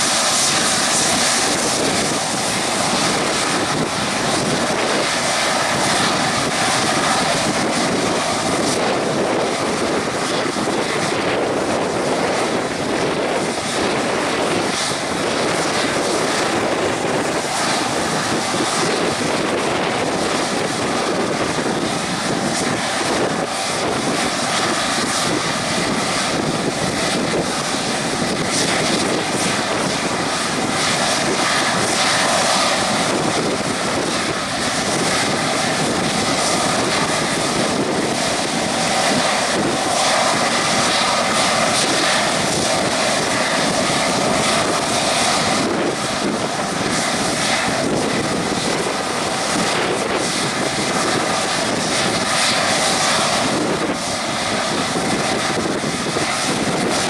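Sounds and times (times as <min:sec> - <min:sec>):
jet engines idling: 0:00.0 - 0:57.0.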